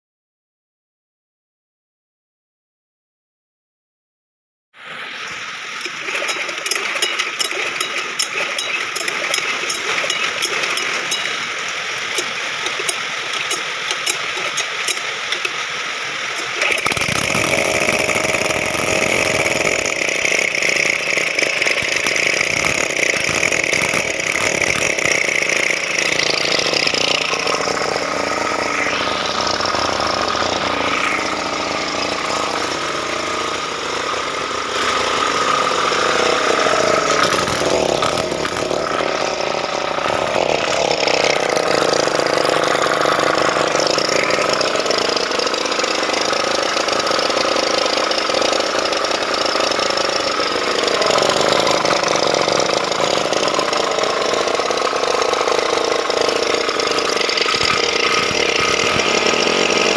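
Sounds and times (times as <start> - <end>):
diesel engine running: 4.8 - 59.9.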